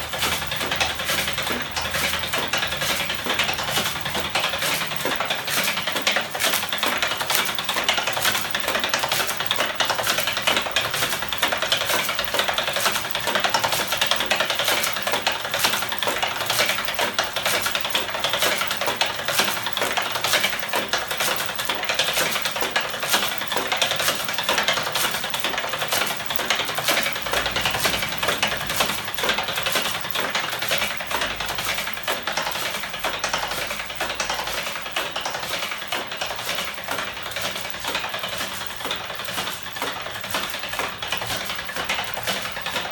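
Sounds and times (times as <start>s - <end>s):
mechanical clicking and clatter: 0.0s - 42.9s.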